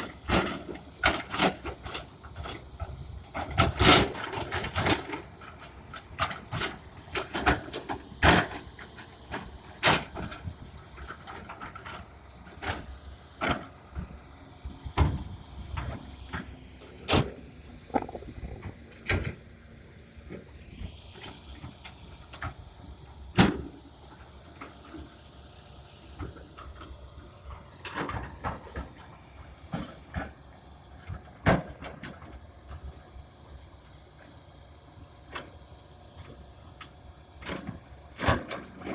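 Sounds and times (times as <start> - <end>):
excavator running: 0.0 - 38.9.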